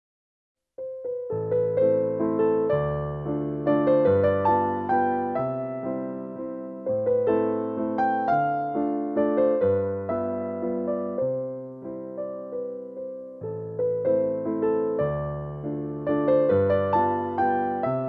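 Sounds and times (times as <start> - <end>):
solo piano music: 0.8 - 18.0.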